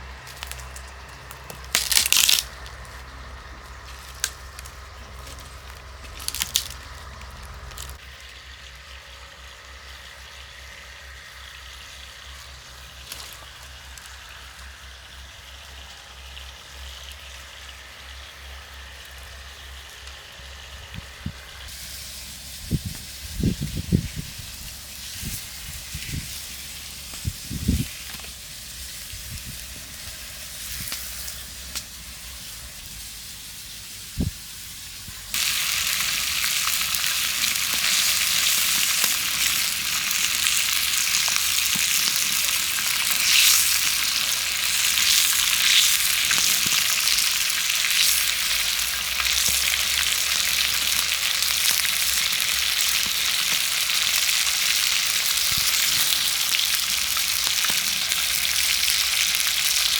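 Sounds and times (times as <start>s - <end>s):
meat sizzling in hot oil: 3.2s - 59.9s.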